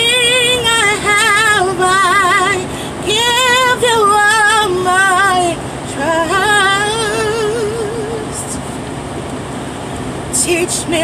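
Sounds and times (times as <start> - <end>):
woman singing with vibrato: 0.0 - 8.6, 10.3 - 11.0
truck cab rumble: 0.0 - 11.0.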